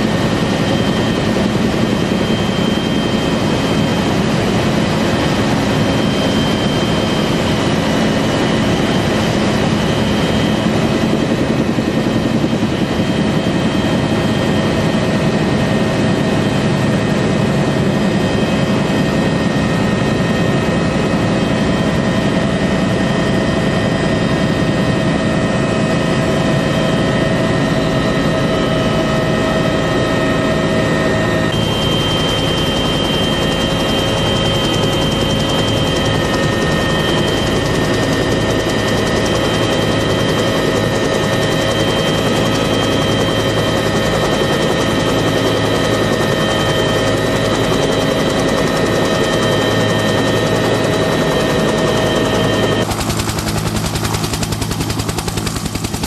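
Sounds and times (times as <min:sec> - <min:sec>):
helicopter rotor beating: 0:00.0 - 0:56.0
helicopter turbine whine: 0:00.0 - 0:56.0.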